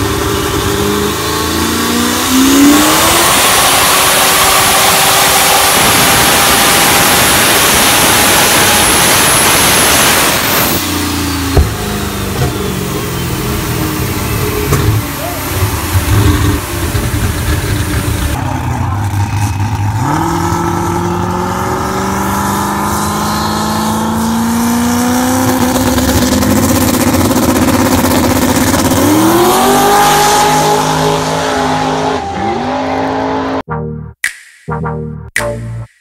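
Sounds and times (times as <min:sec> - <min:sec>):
car engine running hard: 0:00.0 - 0:33.6
drag car engine accelerating: 0:00.0 - 0:33.7.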